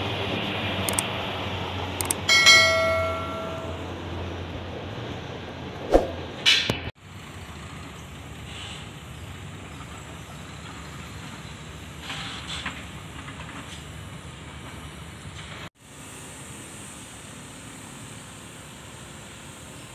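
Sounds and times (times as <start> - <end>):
distant traffic hiss and hum: 0.0 - 19.9.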